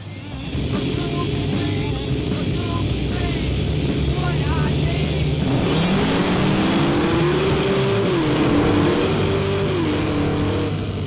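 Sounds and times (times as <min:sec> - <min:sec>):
race car engines revving: 0:00.0 - 0:11.0.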